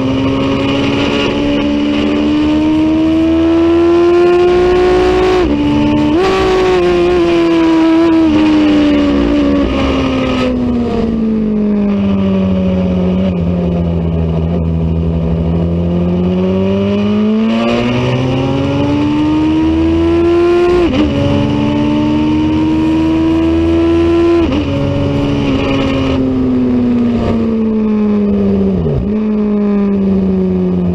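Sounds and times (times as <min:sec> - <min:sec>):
racing motorcycle engine: 0:00.0 - 0:30.9.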